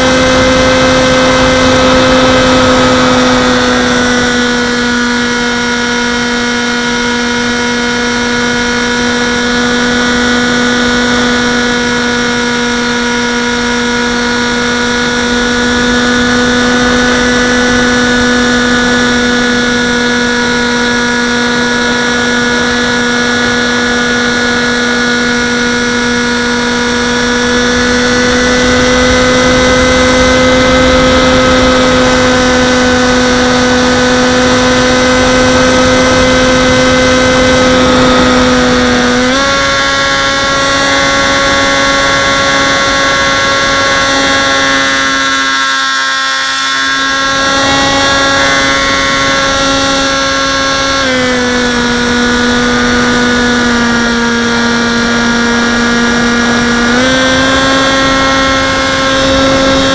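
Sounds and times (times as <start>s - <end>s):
electric motor and propeller whining: 0.0s - 59.9s.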